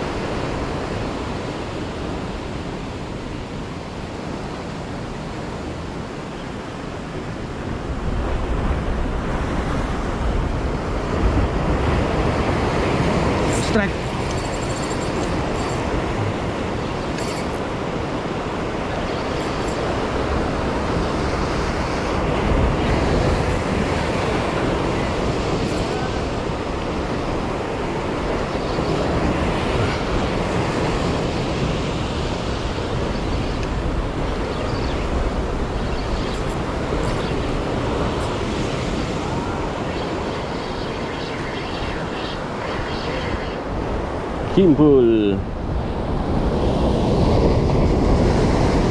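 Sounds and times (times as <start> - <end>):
sea surf washing against breakwater: 0.0 - 48.9.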